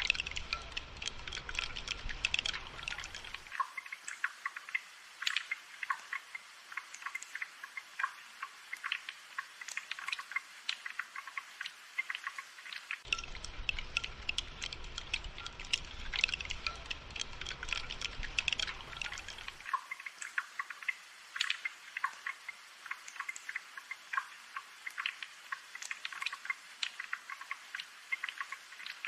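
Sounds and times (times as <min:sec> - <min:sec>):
rain dripping and pattering: 0:00.0 - 0:29.0.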